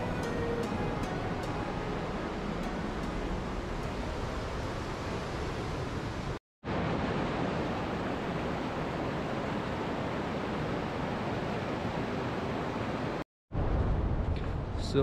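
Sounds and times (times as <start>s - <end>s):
steady outdoor rushing noise: 0.0s - 15.0s.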